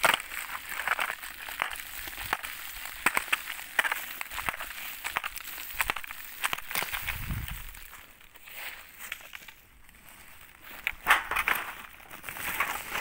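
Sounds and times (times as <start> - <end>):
twigs crunching underfoot: 0.0 - 13.0.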